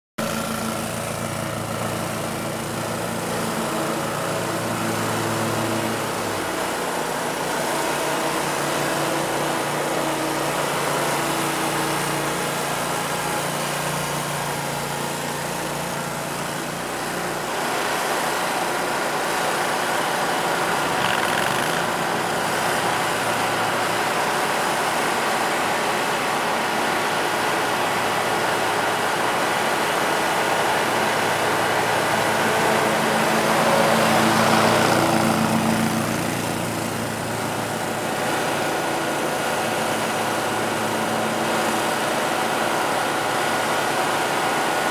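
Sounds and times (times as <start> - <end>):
riding mower engine running: 0.2 - 44.9.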